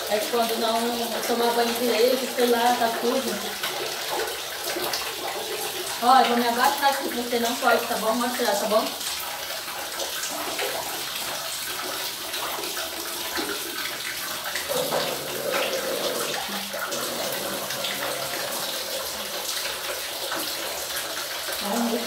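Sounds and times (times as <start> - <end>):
water splashing on floor: 0.0 - 22.0.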